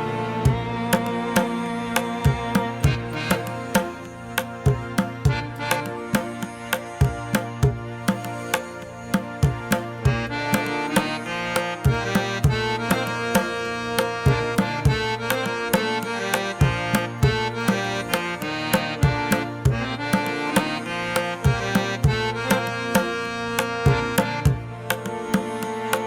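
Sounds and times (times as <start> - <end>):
hand-drum beat: 0.4 - 26.0.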